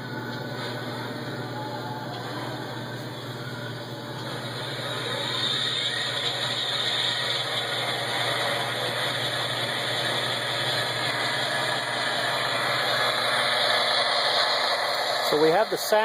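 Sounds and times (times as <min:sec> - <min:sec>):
diesel engine sound from small speaker: 0:00.0 - 0:16.0.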